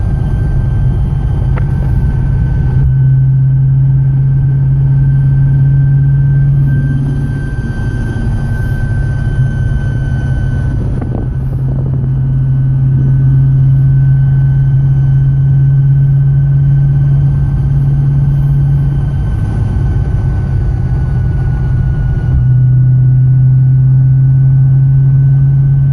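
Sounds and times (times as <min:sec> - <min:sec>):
car drivetrain low drone: 0:00.0 - 0:25.9
thin steady whine: 0:00.0 - 0:25.9.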